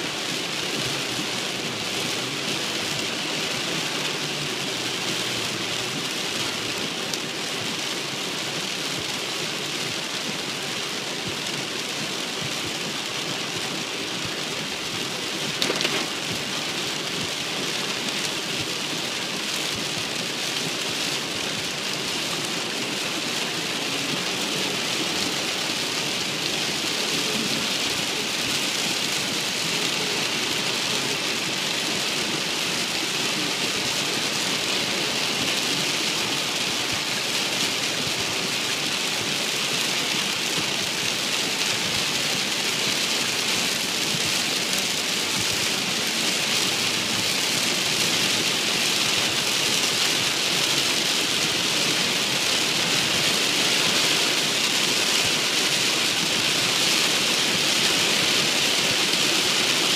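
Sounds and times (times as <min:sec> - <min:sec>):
heavy rain on car windshield: 0:00.0 - 0:59.9.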